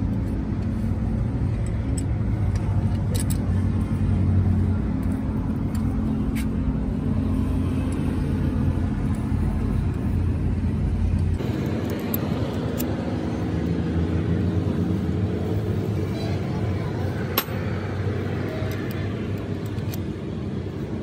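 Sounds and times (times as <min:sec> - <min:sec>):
engine running with deep hum: 0:00.0 - 0:21.0.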